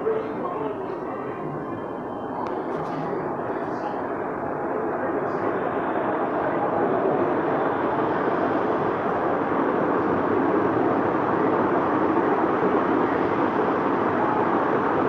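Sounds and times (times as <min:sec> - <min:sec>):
ceiling fan running: 0:00.0 - 0:15.0.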